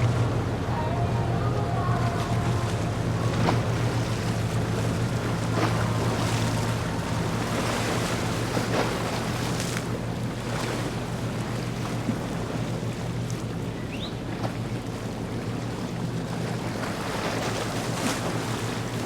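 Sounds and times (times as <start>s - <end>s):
boat engines humming: 0.0s - 19.0s
water wash: 0.0s - 19.0s.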